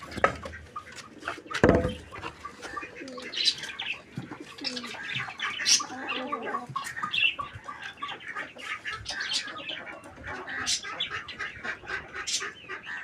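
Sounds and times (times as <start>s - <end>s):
poultry calling: 0.0s - 13.0s.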